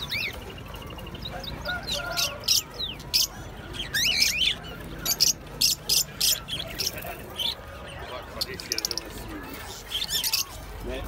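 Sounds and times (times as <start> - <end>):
caged birds chirping and calling: 0.0 - 11.0.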